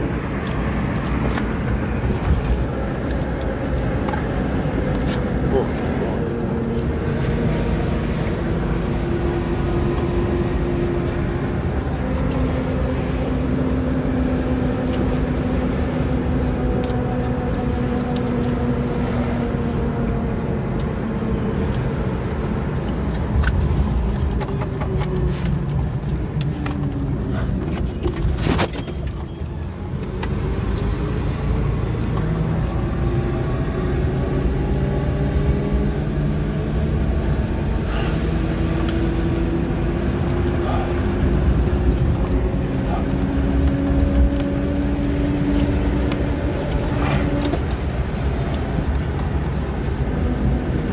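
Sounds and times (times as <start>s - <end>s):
road noise: 0.0s - 50.9s.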